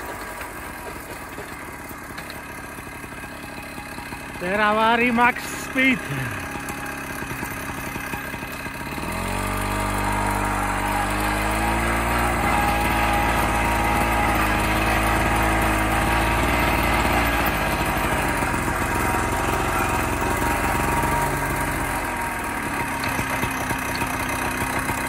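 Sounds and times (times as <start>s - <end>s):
walking tractor engine running: 0.0s - 25.0s.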